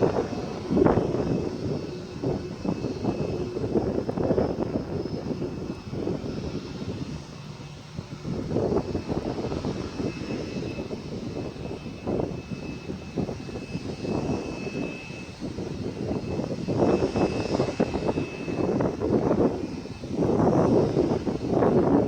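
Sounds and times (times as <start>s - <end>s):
faint high whine: 0.0s - 22.0s
jet engines rumbling: 0.0s - 22.0s.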